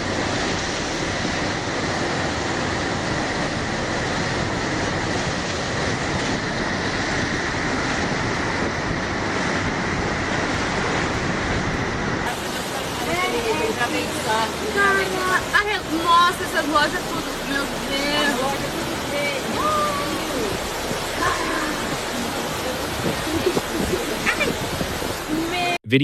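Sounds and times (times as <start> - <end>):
floodwater rushing: 0.0 - 25.8.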